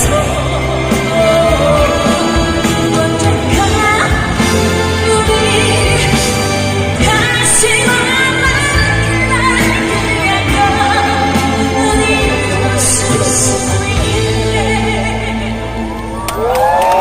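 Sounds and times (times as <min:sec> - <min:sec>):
person singing live: 0:00.0 - 0:17.0.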